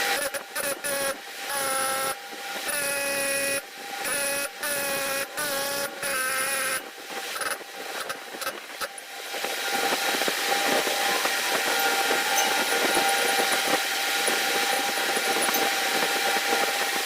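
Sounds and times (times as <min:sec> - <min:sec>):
small motor whining: 0:00.0 - 0:17.0.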